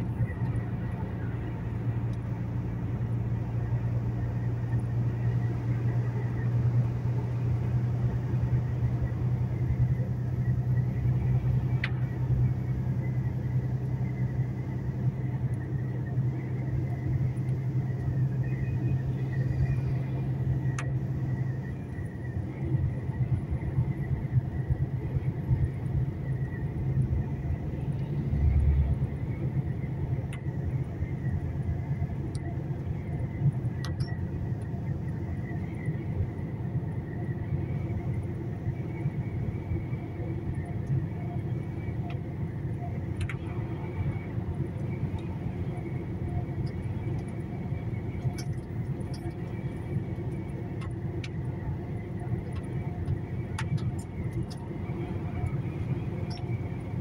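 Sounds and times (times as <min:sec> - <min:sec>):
truck engine and road rumble: 0:00.0 - 0:57.0.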